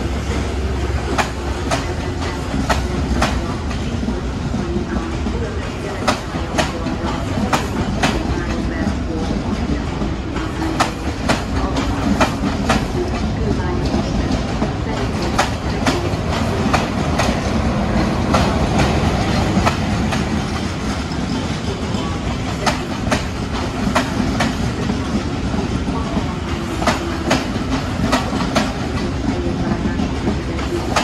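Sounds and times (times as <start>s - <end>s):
train coaches rumbling past: 0.0s - 31.0s
wheels clacking over rail joints: 0.0s - 31.0s.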